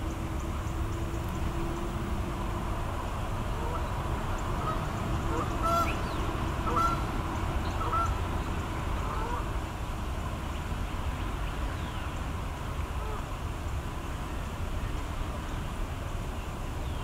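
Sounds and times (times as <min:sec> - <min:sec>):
low background rumble: 0:00.0 - 0:16.5.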